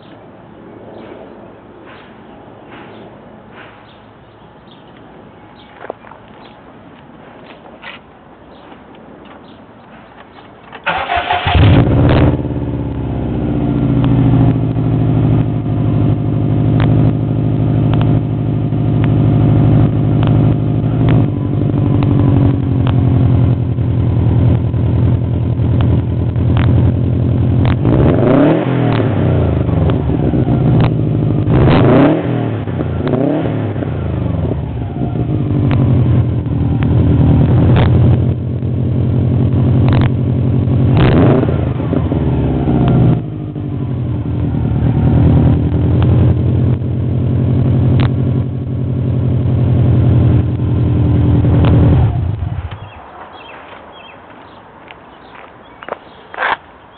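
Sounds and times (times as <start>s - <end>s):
car engine idling and revving: 10.6s - 56.9s.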